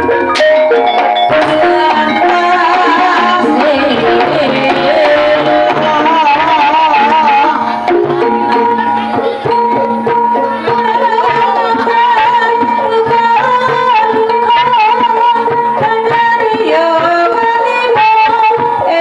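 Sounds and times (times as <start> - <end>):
hand drums beating: 0.0 - 19.0
sustained melody with vibrato: 0.0 - 19.0.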